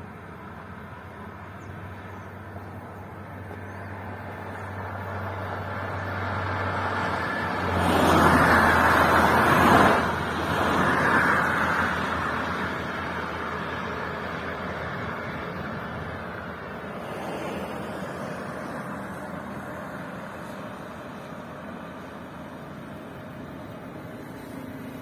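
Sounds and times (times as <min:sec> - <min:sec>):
car passing by: 0:02.4 - 0:25.0.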